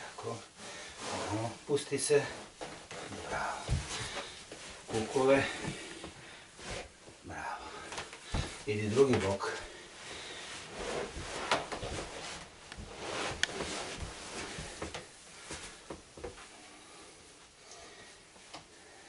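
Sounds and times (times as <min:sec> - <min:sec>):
clothing and cushions rustling: 0:00.0 - 0:19.0.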